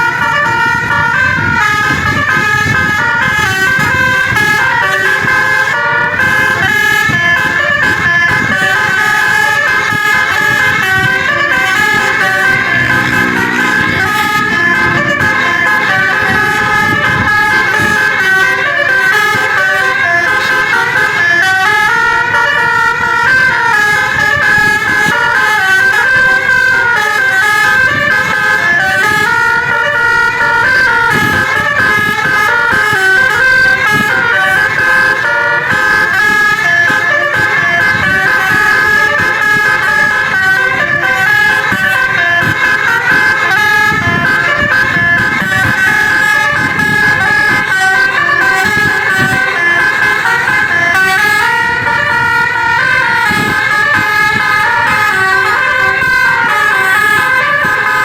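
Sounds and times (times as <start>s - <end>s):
musical air horn tune: 0.0s - 58.0s.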